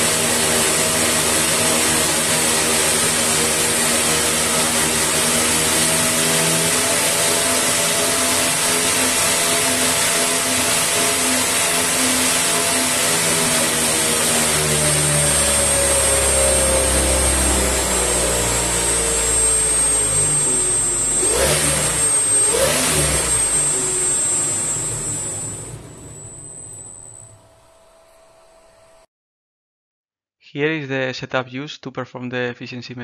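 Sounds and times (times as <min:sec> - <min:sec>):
propeller motor whine and air rush: 0:00.0 - 0:27.2.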